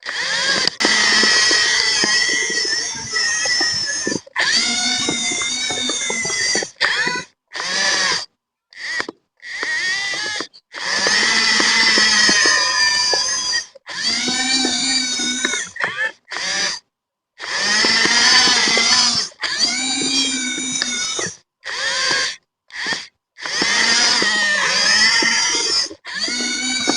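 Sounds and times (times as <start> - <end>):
electric gear motors whining: 0.0 - 16.8, 17.4 - 26.9.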